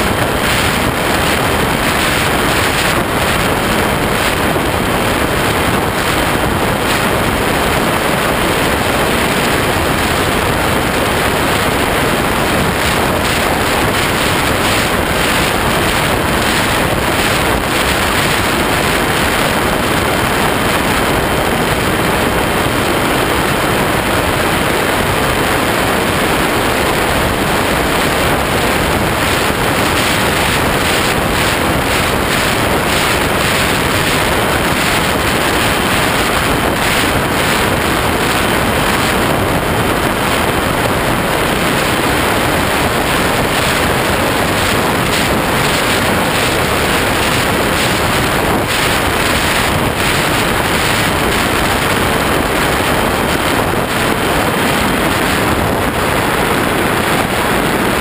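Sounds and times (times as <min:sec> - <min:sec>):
ducted fan running: 0:00.0 - 0:58.0
wind buffeting microphone: 0:00.0 - 0:58.0.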